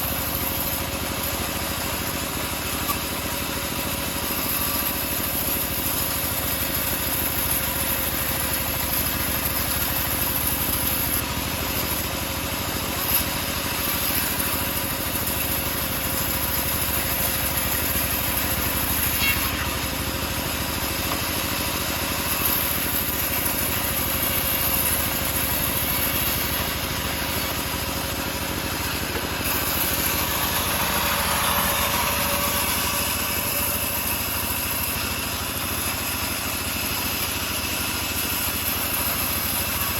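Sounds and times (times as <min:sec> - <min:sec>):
engine-driven bandsaw sawing wood: 0:00.0 - 0:39.9.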